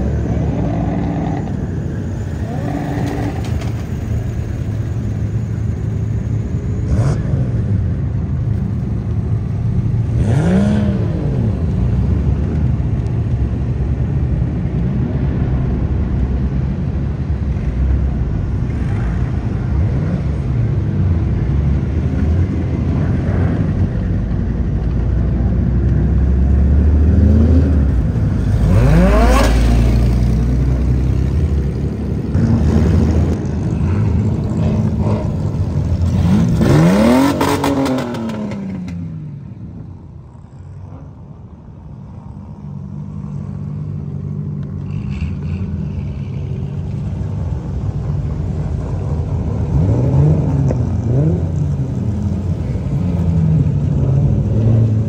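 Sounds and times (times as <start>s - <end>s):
car engines revving hard: 0.0s - 41.5s, 42.5s - 55.0s.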